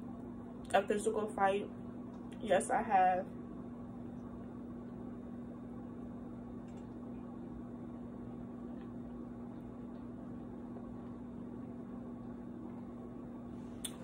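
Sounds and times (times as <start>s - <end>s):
low electrical hum: 0.0s - 14.0s
room noise hiss: 0.0s - 14.0s.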